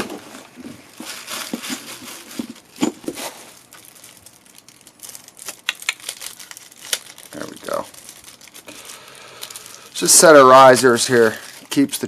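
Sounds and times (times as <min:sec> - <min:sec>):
crinkly packaging crackling: 0:00.0 - 0:12.0.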